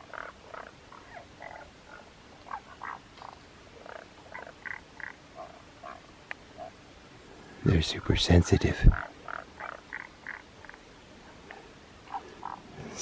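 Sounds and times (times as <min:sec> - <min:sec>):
chorus of tiny frogs calling: 0:00.0 - 0:06.8, 0:07.9 - 0:10.9, 0:11.5 - 0:13.0.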